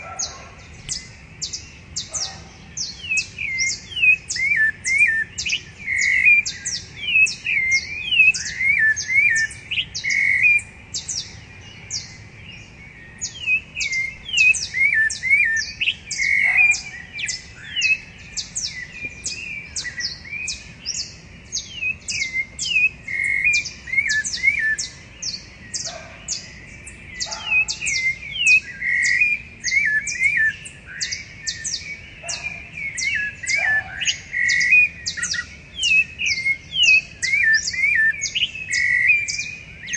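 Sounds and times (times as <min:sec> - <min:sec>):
lower bird notes: 0:00.0 - 0:39.9
thrushes singing: 0:00.0 - 0:39.9.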